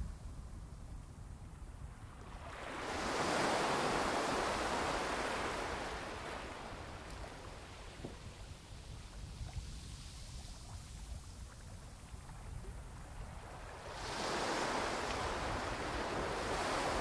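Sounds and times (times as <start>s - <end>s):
wave washing up a beach: 2.2s - 17.0s.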